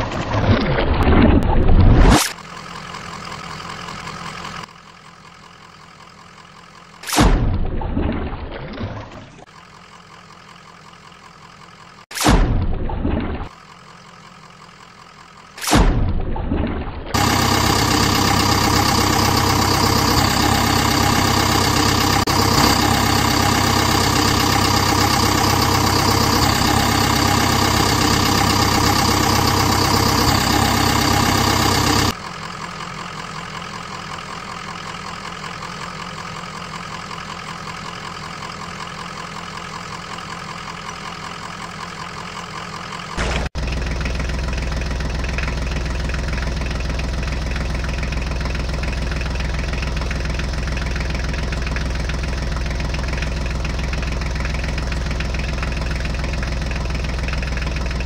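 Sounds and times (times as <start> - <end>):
engine idling: 2.3 - 8.6, 9.4 - 12.1, 12.8 - 58.0.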